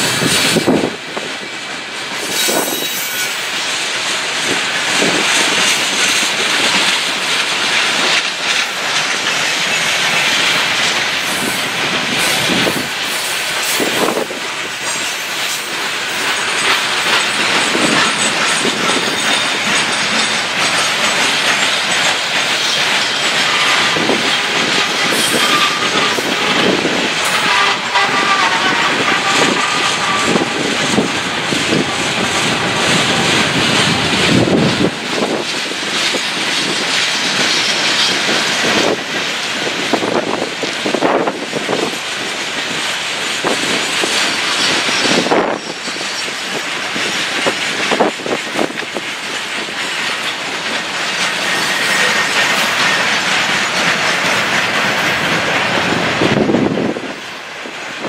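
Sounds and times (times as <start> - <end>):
wheels clicking over rail joints: 0.0 - 57.1
freight train rolling past: 0.0 - 58.0.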